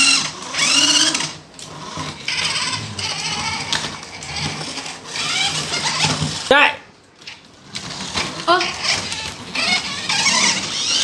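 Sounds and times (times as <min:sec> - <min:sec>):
toy car motors whirring: 0:00.0 - 0:06.5, 0:07.2 - 0:11.0.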